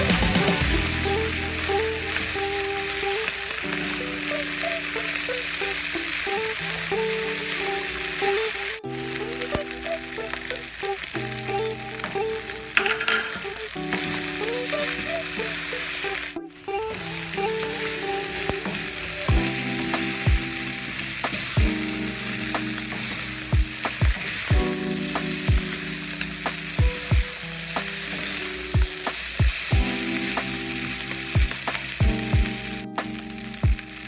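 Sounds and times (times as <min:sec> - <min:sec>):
rice sizzling in a frying pan: 0:00.0 - 0:34.0.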